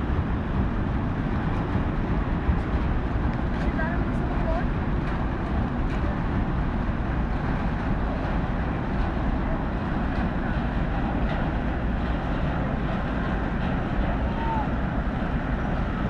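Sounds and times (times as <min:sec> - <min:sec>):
ship engines rumbling: 0:00.0 - 0:16.0.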